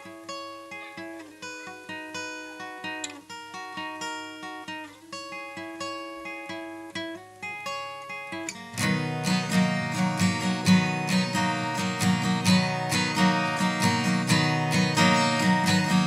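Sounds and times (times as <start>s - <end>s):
acoustic guitar picked notes: 0.0s - 16.0s
acoustic guitar strummed chords: 0.0s - 16.0s.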